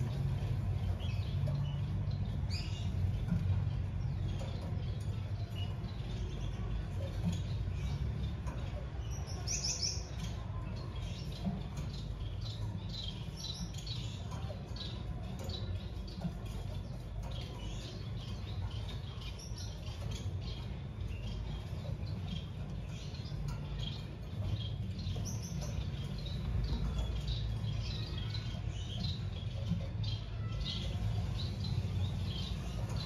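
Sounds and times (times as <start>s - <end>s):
finches chirping: 0.0s - 33.0s.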